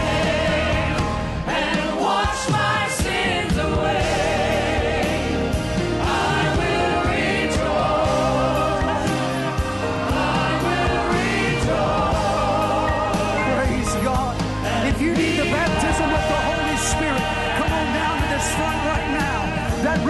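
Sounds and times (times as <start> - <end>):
gospel choir singing: 0.0 - 20.0
keyboard accompaniment: 0.0 - 20.0
sustained bass: 3.0 - 20.0.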